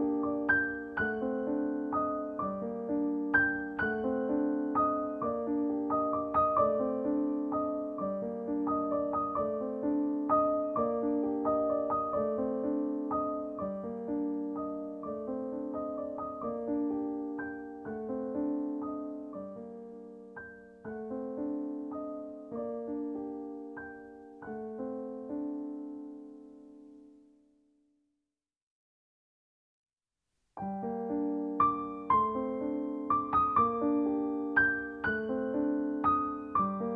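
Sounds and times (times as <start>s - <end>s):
gentle solo piano piece: 0.0s - 27.4s, 30.6s - 36.9s.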